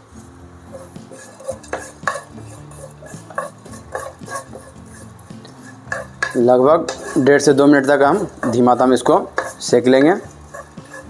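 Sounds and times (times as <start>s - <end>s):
seeds roasting in oil: 0.0s - 11.0s
spoon stirring and scraping pan: 0.1s - 11.0s
spoon clinking against pan: 0.8s - 4.8s, 5.4s - 11.0s.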